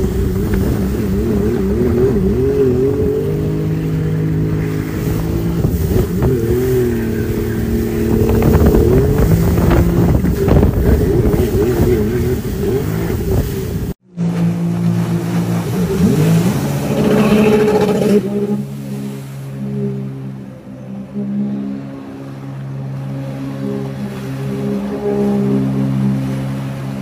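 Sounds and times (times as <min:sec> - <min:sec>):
jet ski engine revving: 0:00.0 - 0:27.0
rushing water: 0:00.0 - 0:27.0.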